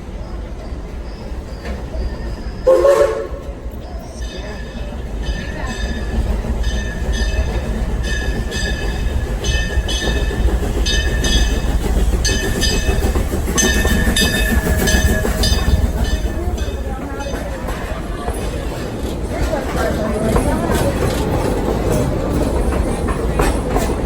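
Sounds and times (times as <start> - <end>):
steam train rumbling: 0.0 - 24.0.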